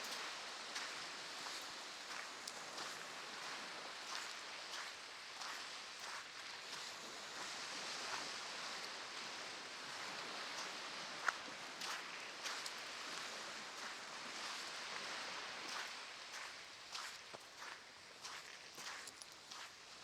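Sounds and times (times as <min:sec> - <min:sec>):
footsteps on sand: 0:00.0 - 0:08.4, 0:09.9 - 0:20.0
ocean surf on a beach: 0:00.0 - 0:20.0.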